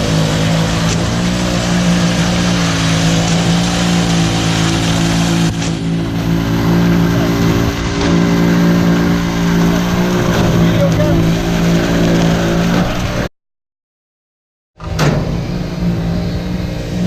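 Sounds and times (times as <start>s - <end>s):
heavy machinery engine drone: 0.0s - 13.3s, 14.8s - 17.0s.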